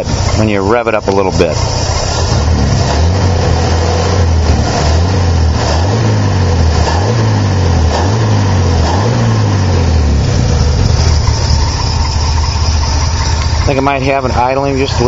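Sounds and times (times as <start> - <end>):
car engine revving in blips: 0.0 - 15.0.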